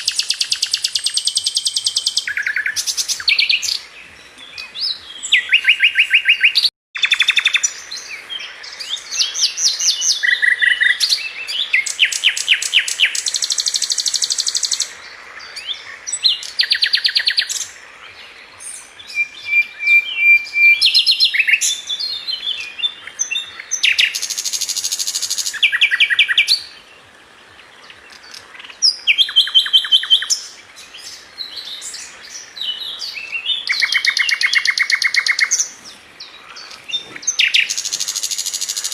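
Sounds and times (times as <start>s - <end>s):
bird singing trills and chirps: 0.0s - 26.9s, 27.6s - 38.9s.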